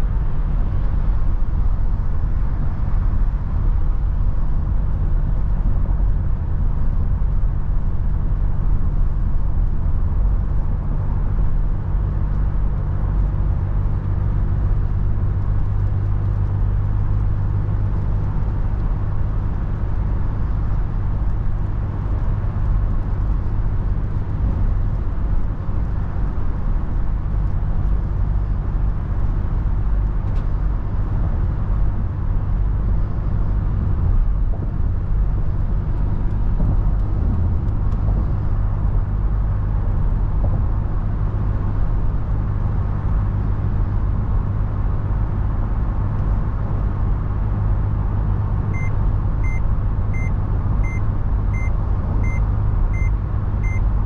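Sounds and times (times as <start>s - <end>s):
car engine and tyres droning: 0.0s - 54.0s
wind and road noise: 0.0s - 54.0s.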